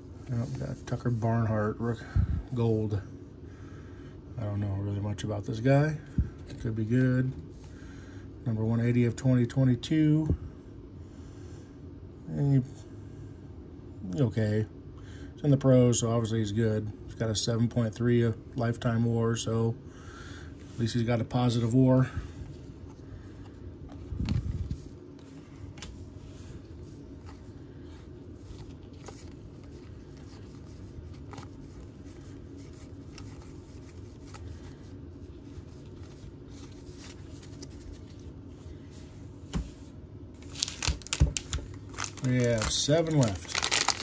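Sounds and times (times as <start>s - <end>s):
low room hum: 0.0s - 44.0s.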